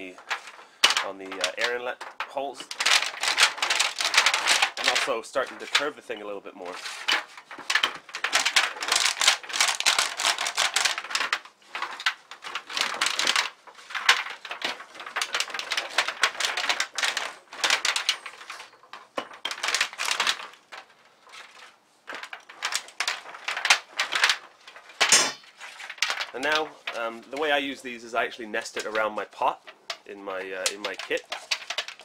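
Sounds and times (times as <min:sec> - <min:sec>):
foil crackling and clicking: 0:00.0 - 0:32.0
rolling pin on foil sheet: 0:00.0 - 0:32.0.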